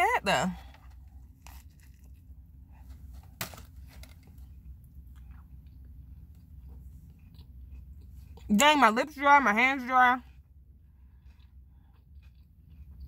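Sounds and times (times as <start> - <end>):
low hum in car cabin: 0.0 - 13.0
person chewing: 0.6 - 8.5, 10.3 - 13.0.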